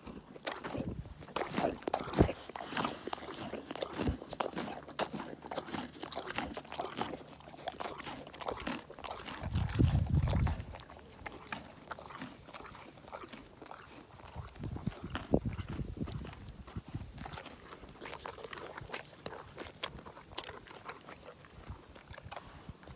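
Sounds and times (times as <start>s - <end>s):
pony crunching carrots: 0.0s - 22.9s.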